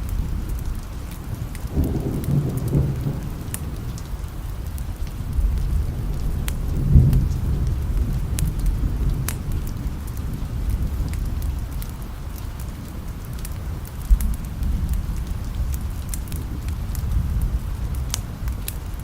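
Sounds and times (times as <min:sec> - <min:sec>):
distant thunder rumble: 0:00.0 - 0:19.0
steady rain: 0:00.0 - 0:19.0.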